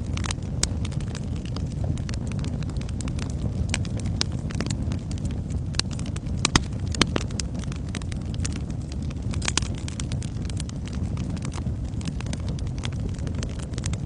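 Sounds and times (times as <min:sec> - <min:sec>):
fire crackles and pops: 0:00.0 - 0:14.0
fireplace flames roaring: 0:00.0 - 0:14.0.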